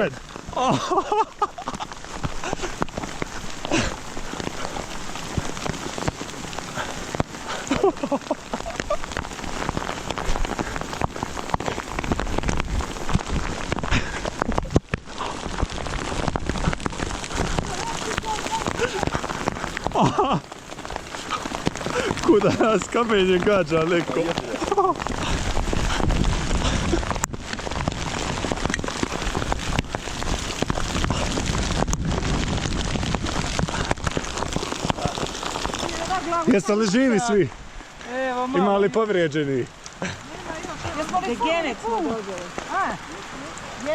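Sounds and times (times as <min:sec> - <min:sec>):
hailstones pelting: 0:00.0 - 0:43.9.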